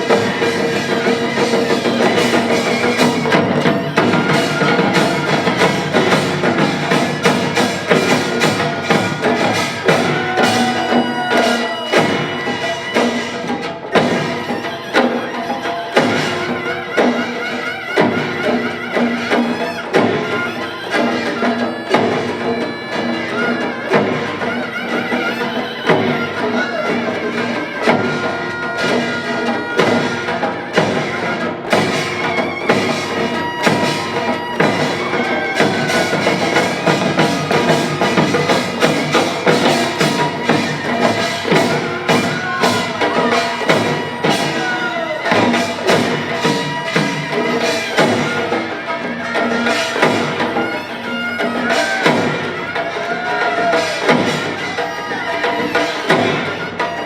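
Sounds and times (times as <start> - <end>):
drum and percussion strokes: 0.0 - 57.0.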